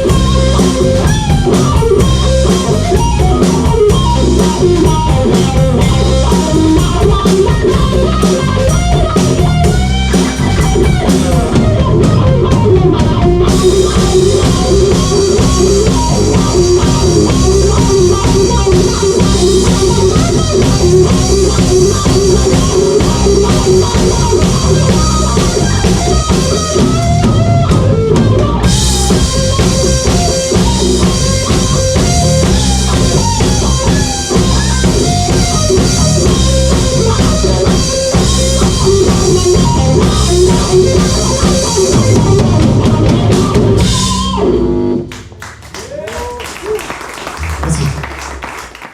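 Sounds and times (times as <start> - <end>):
electric guitar with bent notes: 0.0 - 45.4
bass guitar: 0.0 - 48.9
drum kit: 0.0 - 48.9.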